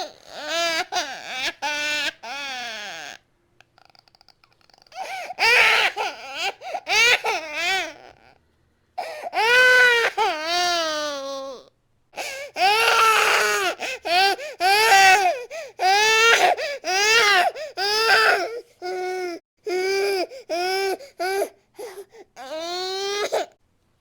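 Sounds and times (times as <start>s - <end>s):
baby crying: 0.0s - 3.2s, 4.9s - 8.3s, 9.0s - 23.5s.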